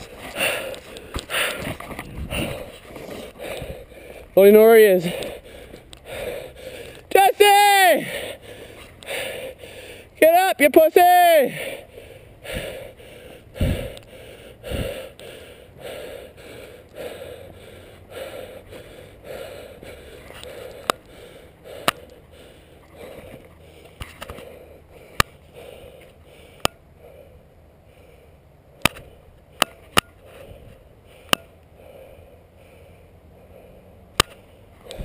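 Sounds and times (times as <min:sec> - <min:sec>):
person breathing hard: 0:00.0 - 0:07.1, 0:08.0 - 0:10.2, 0:11.5 - 0:29.6, 0:30.2 - 0:35.0.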